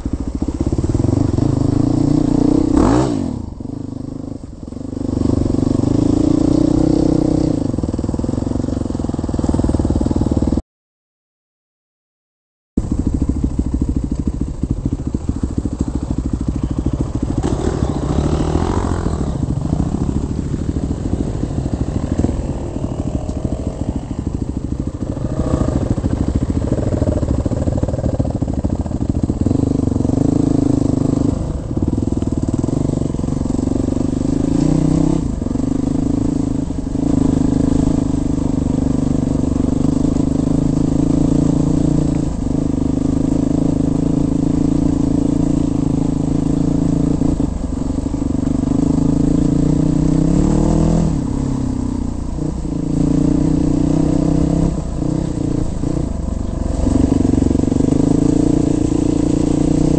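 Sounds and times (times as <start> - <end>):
motorcycle engines revving: 0.0 - 10.6, 12.8 - 59.9.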